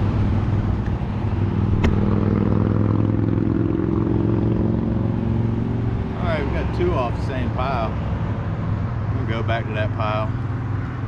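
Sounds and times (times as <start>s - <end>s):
traffic engine drone: 0.0s - 11.0s.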